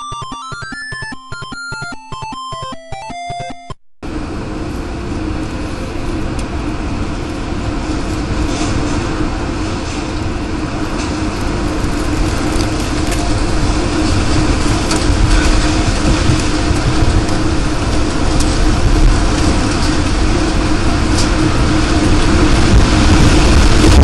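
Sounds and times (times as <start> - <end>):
steady hum: 0.2 - 24.0
tornado wind roar: 4.0 - 24.0.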